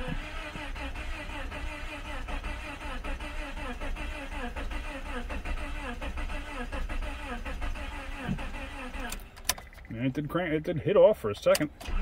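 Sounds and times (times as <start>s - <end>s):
starter cranking car engine: 0.0s - 10.0s, 11.4s - 12.0s.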